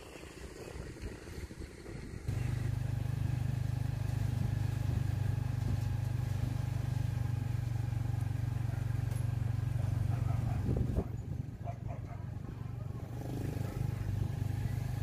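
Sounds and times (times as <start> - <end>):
engine humming steadily: 0.0 - 15.0.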